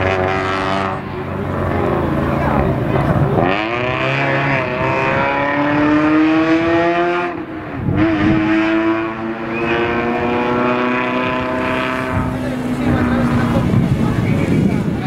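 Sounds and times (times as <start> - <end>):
car engine revving high: 0.0 - 14.6.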